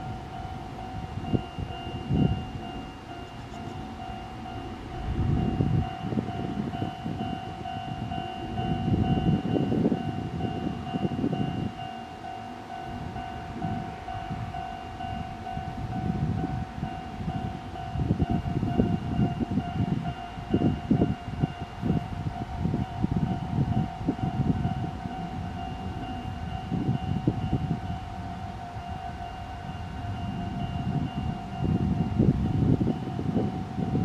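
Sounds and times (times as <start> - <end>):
level crossing warning bell: 0.0 - 34.0.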